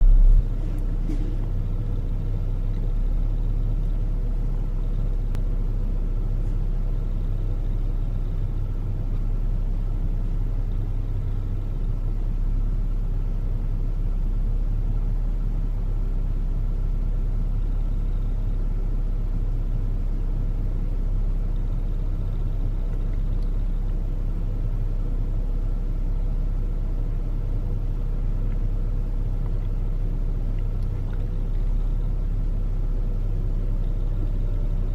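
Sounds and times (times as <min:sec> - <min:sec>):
car engine running: 0:00.0 - 0:34.9
faint constant hum: 0:00.0 - 0:34.9.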